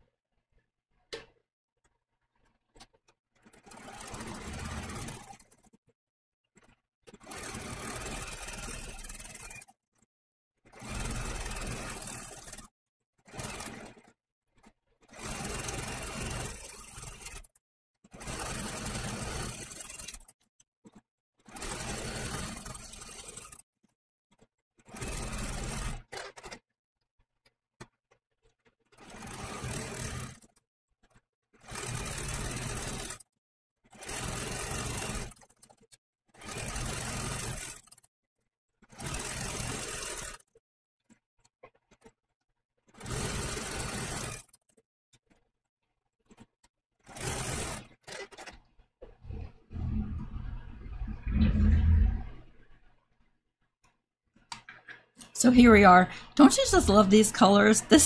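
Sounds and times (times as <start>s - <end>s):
sewing machine stitching: 2.4s - 6.0s, 6.6s - 26.6s, 27.8s - 38.1s, 38.8s - 45.4s, 46.2s - 52.8s, 54.4s - 58.0s.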